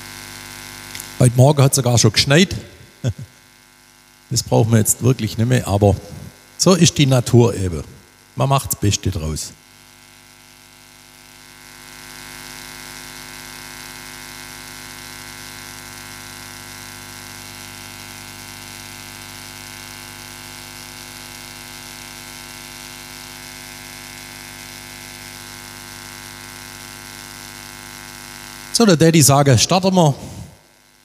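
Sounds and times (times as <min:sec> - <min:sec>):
electrical hum and buzz: 0:00.0 - 0:31.0.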